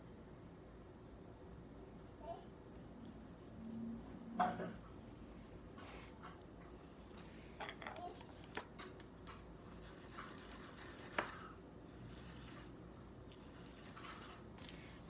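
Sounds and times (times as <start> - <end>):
paintbrush strokes: 1.6 - 8.6, 9.6 - 15.0.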